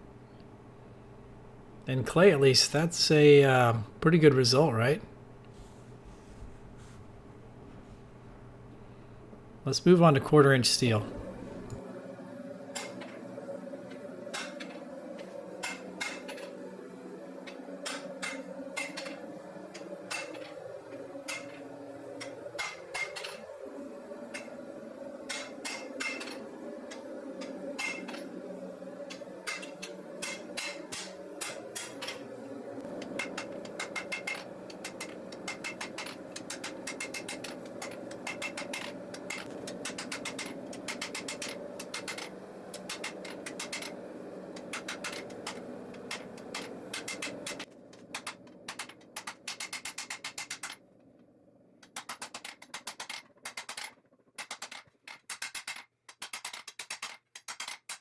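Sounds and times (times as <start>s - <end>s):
steady hum: 0.0s - 52.7s.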